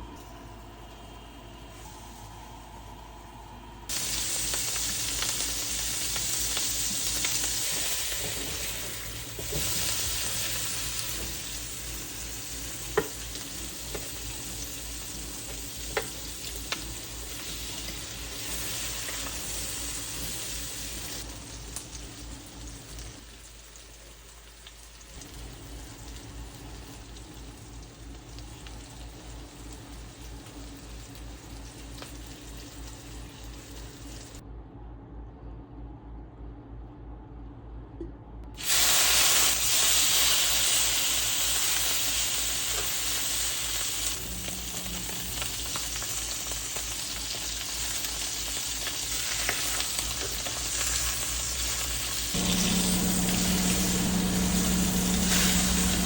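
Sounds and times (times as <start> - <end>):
food sizzling in a frying pan: 3.9 - 34.4, 38.6 - 56.0.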